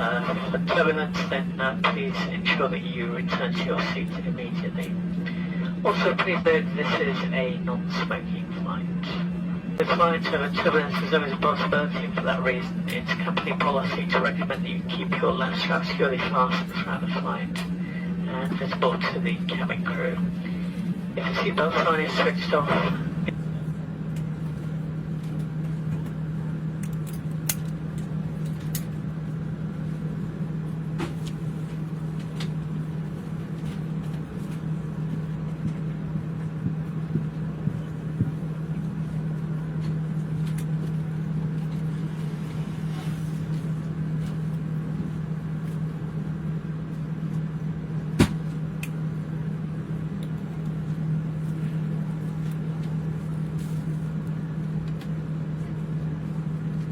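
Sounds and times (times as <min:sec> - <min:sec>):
airliner cabin hum: 0:00.0 - 0:56.9.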